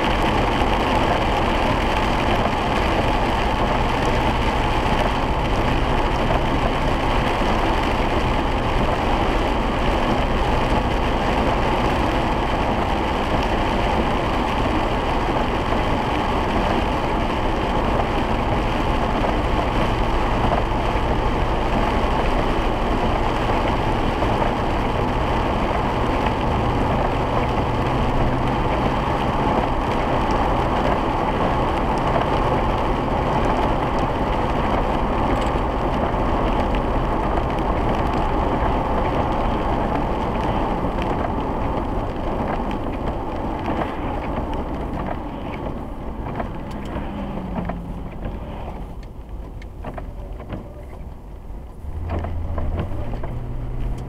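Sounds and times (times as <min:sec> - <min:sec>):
car engine running: 0:00.0 - 0:54.0
tyre noise on wet pavement: 0:00.0 - 0:54.0.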